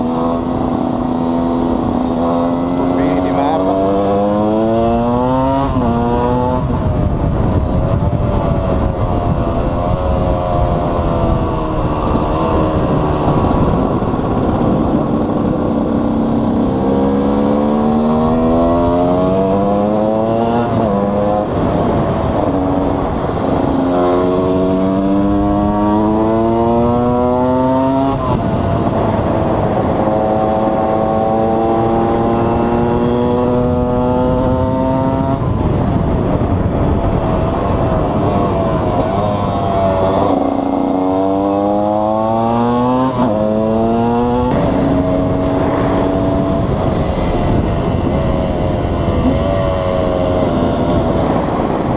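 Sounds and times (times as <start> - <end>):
two-stroke engine pulling hard: 0.0 - 51.9
wind and road noise: 0.0 - 51.9.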